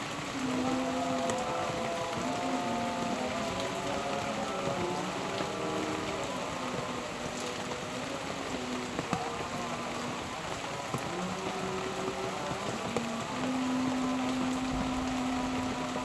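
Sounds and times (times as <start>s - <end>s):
rain falling on surfaces: 0.0s - 16.0s.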